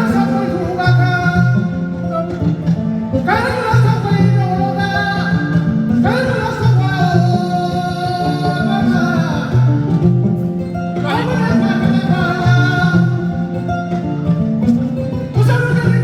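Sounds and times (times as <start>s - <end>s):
person singing: 0.0s - 14.0s, 15.0s - 16.0s
plucked kora strings: 0.0s - 16.0s.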